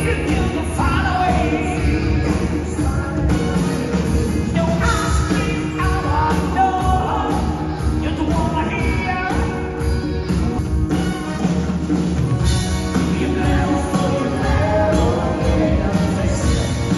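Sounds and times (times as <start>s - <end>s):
lead vocal singing: 0.0s - 9.7s, 12.6s - 16.9s
live rock band playing: 0.0s - 16.9s.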